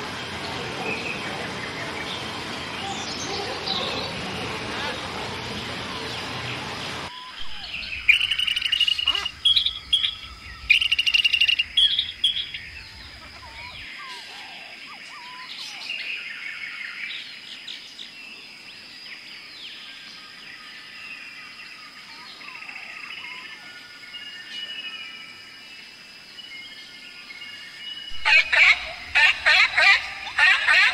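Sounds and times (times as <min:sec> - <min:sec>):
birds chirping and singing: 0:00.1 - 0:25.4, 0:26.3 - 0:30.9.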